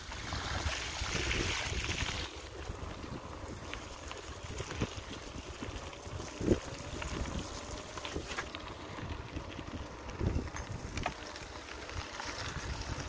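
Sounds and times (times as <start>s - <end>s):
bicycle tyres rumbling on dirt: 0.0s - 13.0s
wind buffeting microphone: 0.1s - 13.0s.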